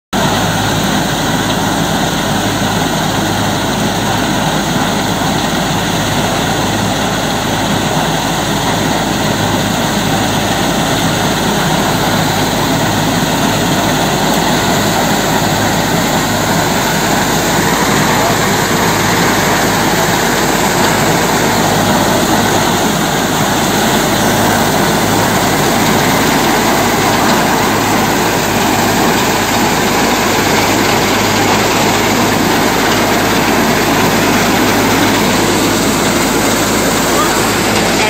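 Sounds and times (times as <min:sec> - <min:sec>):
combine machine running loudly: 0:00.2 - 0:38.0.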